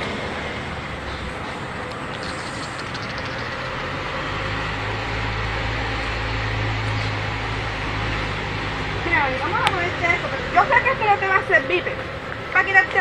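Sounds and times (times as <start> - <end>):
low engine hum: 0.0 - 13.0
steady background noise: 0.0 - 13.0.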